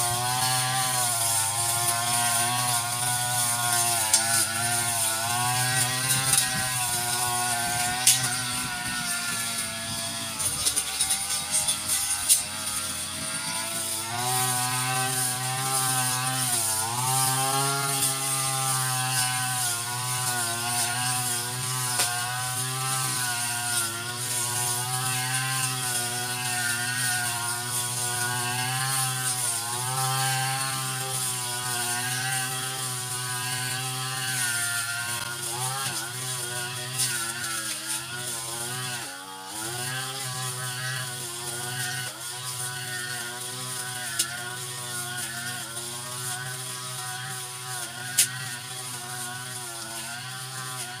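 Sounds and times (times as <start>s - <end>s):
brush cutter engine running: 0.0s - 51.0s.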